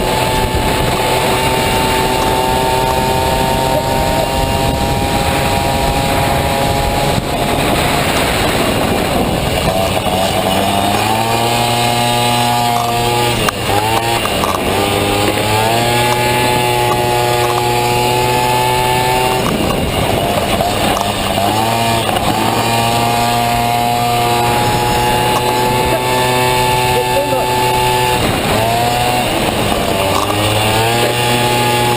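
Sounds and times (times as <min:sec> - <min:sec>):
scooter engine revving hard: 0:00.0 - 0:31.9.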